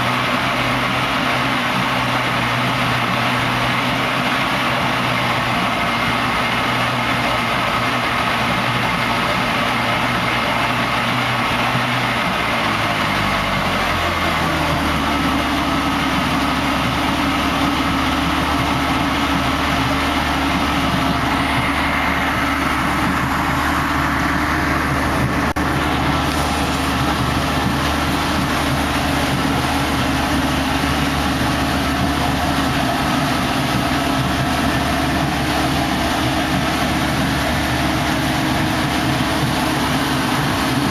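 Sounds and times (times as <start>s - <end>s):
outboard motor idling: 0.0s - 40.9s.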